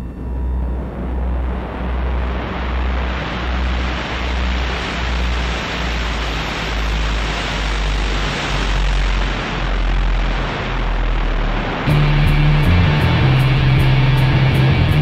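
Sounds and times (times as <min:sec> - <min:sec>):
deep pulsing bass rumble: 0:00.0 - 0:15.0
electronic rushing noise: 0:00.0 - 0:15.0.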